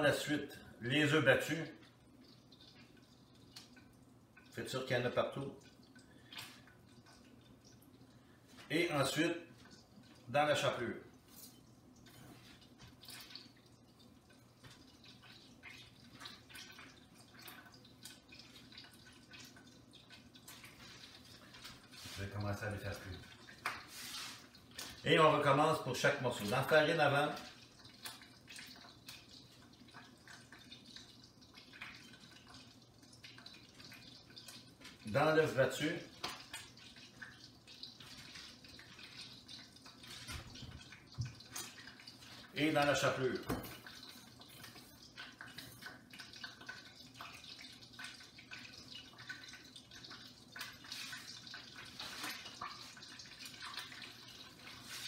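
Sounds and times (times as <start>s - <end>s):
chicken frying in oil: 0.0s - 55.0s.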